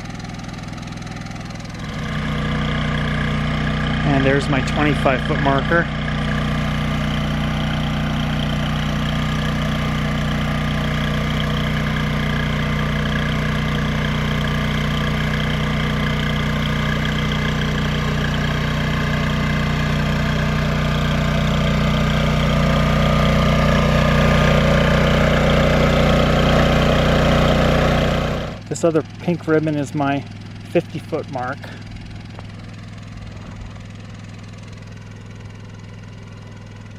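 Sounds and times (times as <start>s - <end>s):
generator running: 0.0s - 36.9s.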